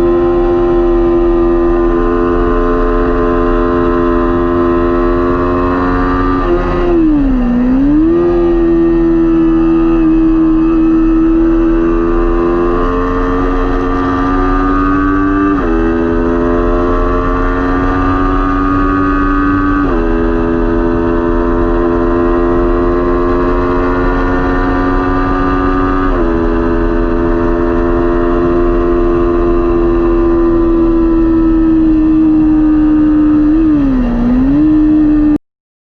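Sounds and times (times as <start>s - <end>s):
motorcycle engine accelerating: 0.0s - 35.4s.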